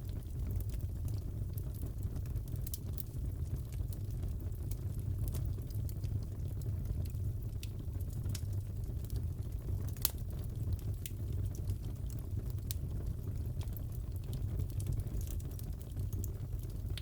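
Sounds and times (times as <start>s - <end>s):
fireplace crackling and popping: 0.0s - 17.0s.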